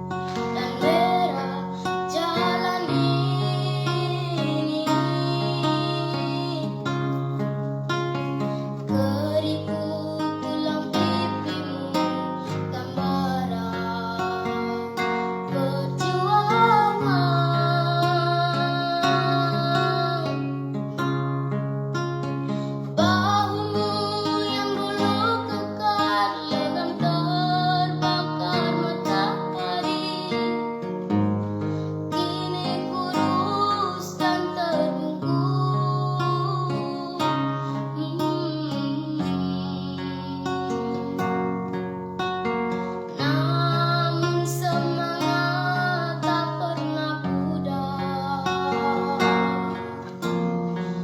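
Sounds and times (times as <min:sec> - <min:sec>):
high singing voice: 0:00.0 - 0:07.4, 0:08.8 - 0:20.7, 0:22.9 - 0:30.8, 0:32.1 - 0:41.4, 0:43.1 - 0:51.0
acoustic guitar chords: 0:00.0 - 0:51.0.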